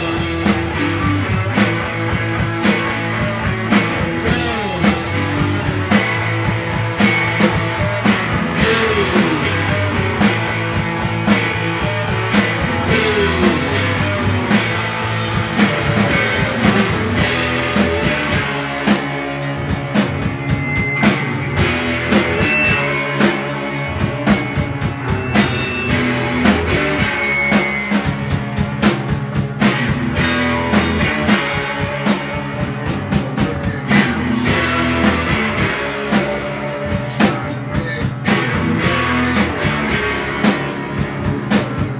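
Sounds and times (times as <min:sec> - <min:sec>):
busy drum kit: 0:00.0 - 0:41.9
electric guitar: 0:00.0 - 0:41.9.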